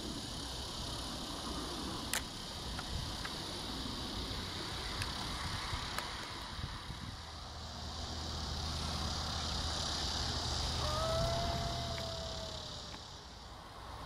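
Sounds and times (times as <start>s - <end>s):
high hiss: 0.0s - 14.0s.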